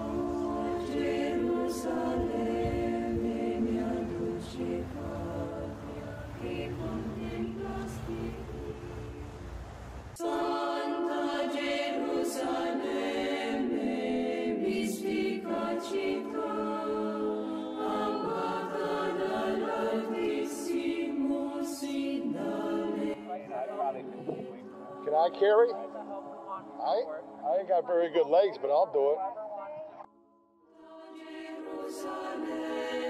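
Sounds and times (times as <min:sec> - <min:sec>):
choir singing sustained chords: 0:00.0 - 0:33.0.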